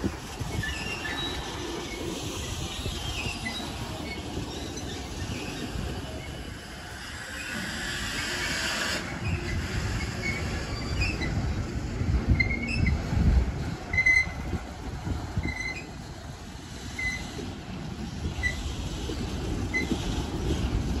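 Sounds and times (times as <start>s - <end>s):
steel wheels rumbling on track: 0.0s - 21.0s.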